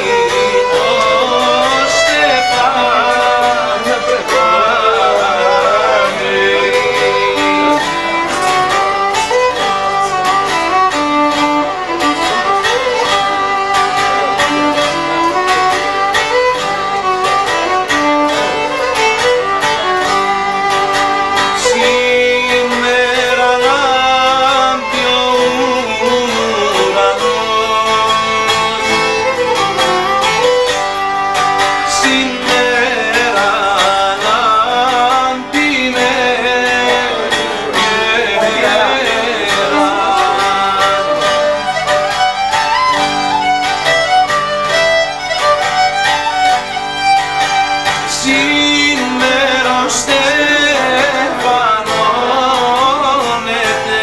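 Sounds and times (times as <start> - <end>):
plucked string accompaniment: 0.0 - 54.0
violin folk melody: 0.0 - 54.0.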